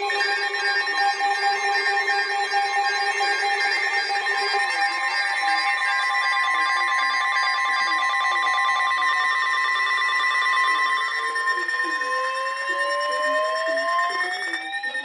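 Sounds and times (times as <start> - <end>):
emergency alert tones: 0.0 - 15.0.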